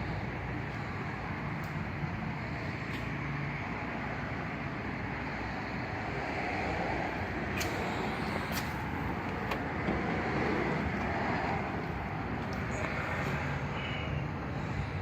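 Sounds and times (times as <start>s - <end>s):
motor vehicle noise: 0.0s - 15.0s.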